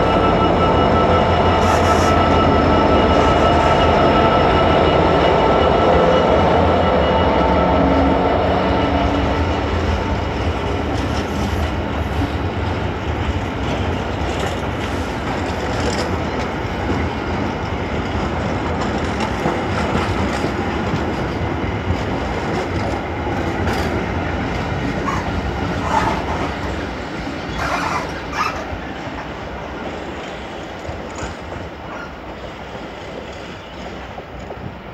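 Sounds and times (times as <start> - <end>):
freight train wheels clattering: 0.0 - 34.9
sharp train clanks: 0.0 - 34.9.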